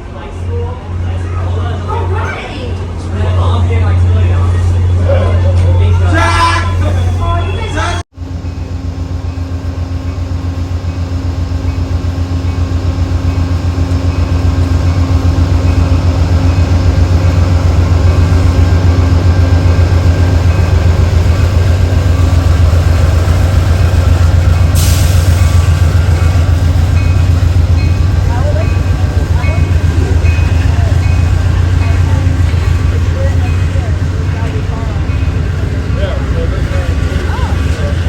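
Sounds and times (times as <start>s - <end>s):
diesel locomotive engine throbbing: 0.0s - 38.0s.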